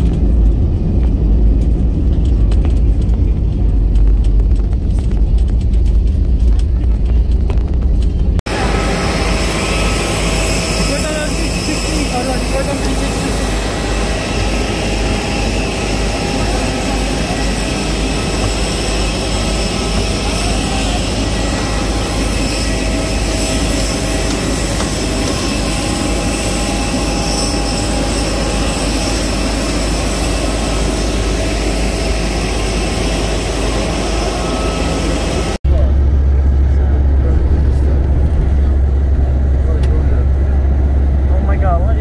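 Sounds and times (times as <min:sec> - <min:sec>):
vehicle low rumble: 0:00.0 - 0:42.0.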